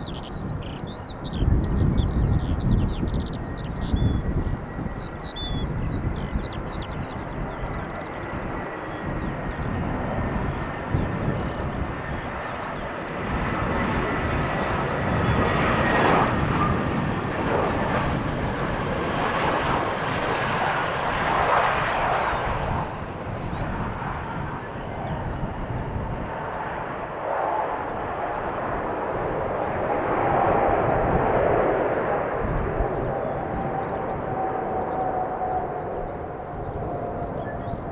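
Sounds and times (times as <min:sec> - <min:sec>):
jet engines roaring past: 0:00.1 - 0:37.9.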